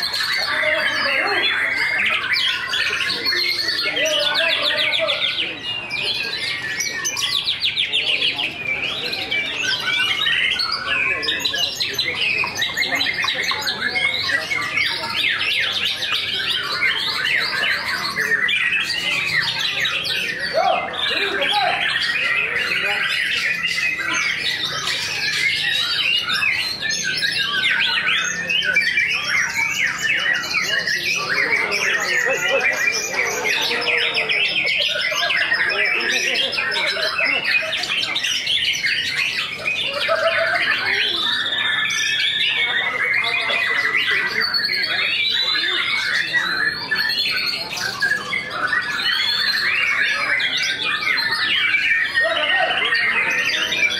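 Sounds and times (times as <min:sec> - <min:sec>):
bird singing whistles and chirps: 0:00.0 - 0:53.9.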